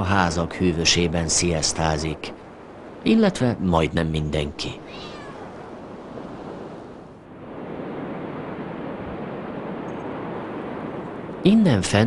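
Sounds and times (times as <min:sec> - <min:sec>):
sea: 0:00.0 - 0:12.0
wind: 0:00.0 - 0:12.0.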